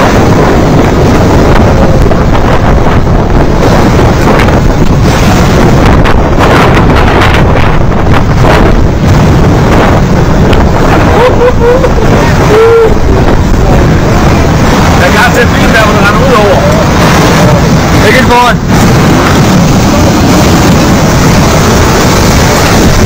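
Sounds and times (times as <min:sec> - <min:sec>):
debris flow rushing rumble: 0:00.0 - 0:23.0
wind buffeting microphone: 0:00.0 - 0:23.0.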